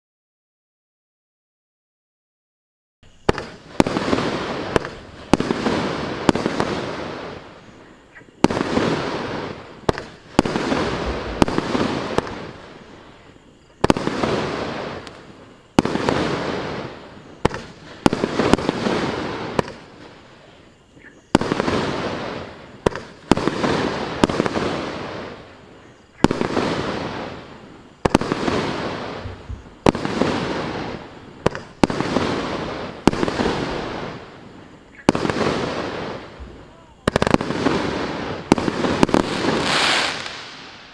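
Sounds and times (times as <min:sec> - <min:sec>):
firework hiss: 0:03.0 - 0:40.9
firework reports: 0:03.2 - 0:40.9.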